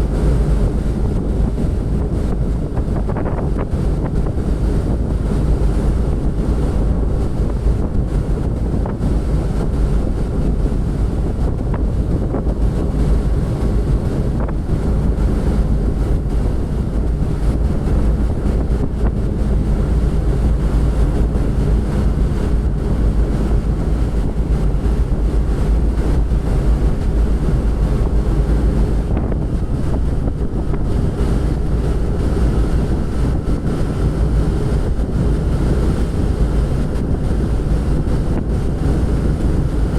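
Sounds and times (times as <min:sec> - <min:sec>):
low steady hum: 0:00.0 - 0:39.9
rushing sea water: 0:00.0 - 0:39.9
wind buffeting microphone: 0:00.0 - 0:39.9.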